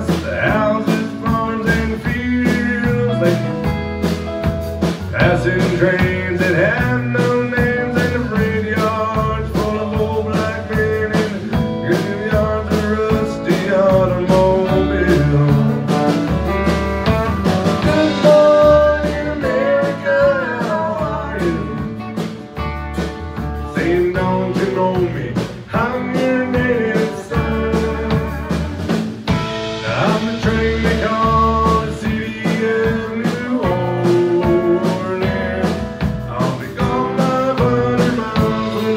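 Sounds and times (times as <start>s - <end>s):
acoustic guitar strumming: 0.0s - 32.7s
bass: 0.0s - 38.9s
electric guitar: 0.0s - 38.9s.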